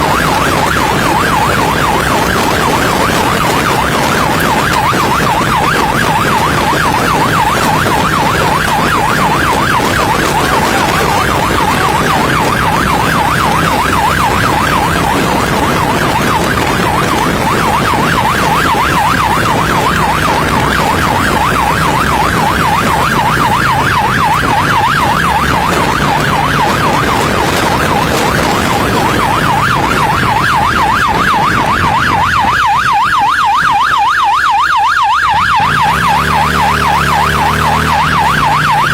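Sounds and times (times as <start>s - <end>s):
motorcycle engine hum: 0.0s - 38.9s
police siren yelping: 0.0s - 38.9s.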